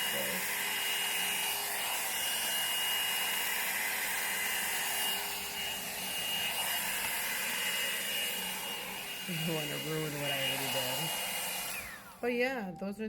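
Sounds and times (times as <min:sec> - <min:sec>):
blow dryer brush running: 0:00.0 - 0:13.0.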